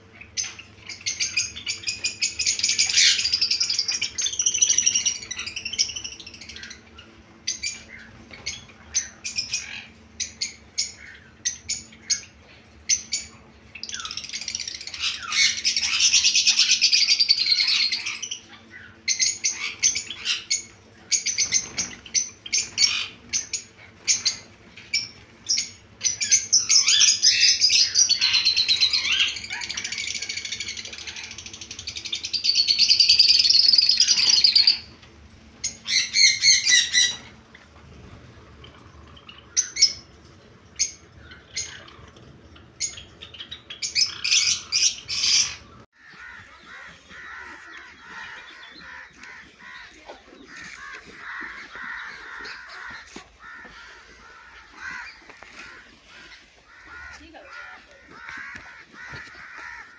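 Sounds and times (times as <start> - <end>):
sparrows chirping: 0.0 - 59.6.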